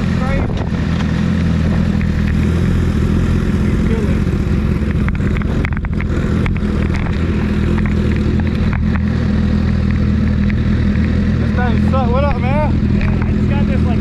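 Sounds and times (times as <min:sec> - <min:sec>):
motorcycle engine running steadily: 0:00.0 - 0:14.0.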